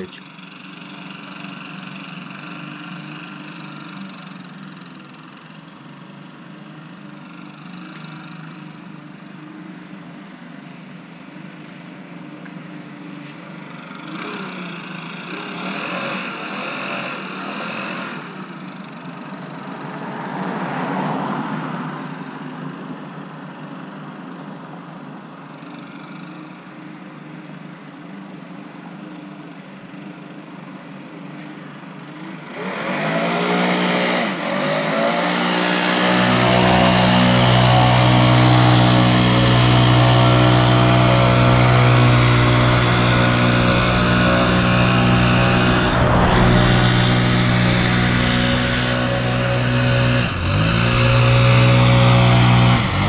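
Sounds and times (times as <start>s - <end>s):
distant leaf blower engine: 0.0s - 20.4s, 25.6s - 53.0s.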